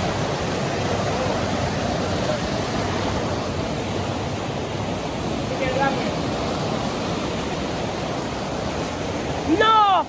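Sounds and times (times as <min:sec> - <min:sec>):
river falls rushing: 0:00.0 - 0:10.0.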